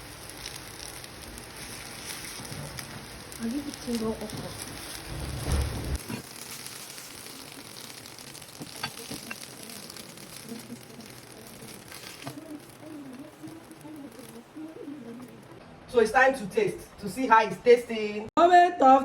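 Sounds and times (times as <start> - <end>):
food sizzling in oil: 0.0 - 15.6.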